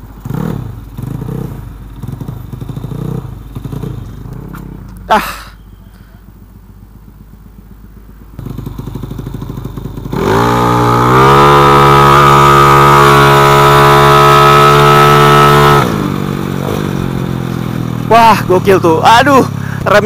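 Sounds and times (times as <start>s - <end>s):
scooter engine revving: 0.0s - 7.7s, 8.3s - 19.9s.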